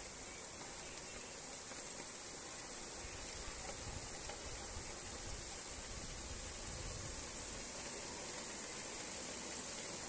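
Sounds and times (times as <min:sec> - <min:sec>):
light rain hissing: 0:00.0 - 0:10.0.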